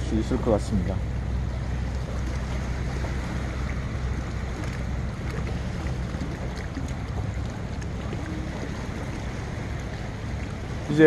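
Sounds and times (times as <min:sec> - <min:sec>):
low rumble with hiss by sea: 0:00.0 - 0:11.0.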